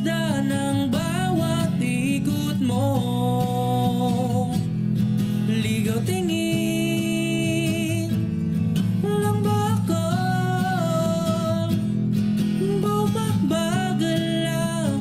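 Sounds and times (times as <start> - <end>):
acoustic guitar: 0.0 - 15.0
man singing a ballad: 0.0 - 15.0.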